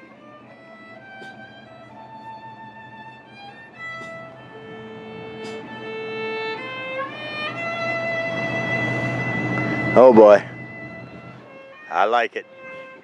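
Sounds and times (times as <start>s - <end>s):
violin long held notes: 0.0s - 13.0s.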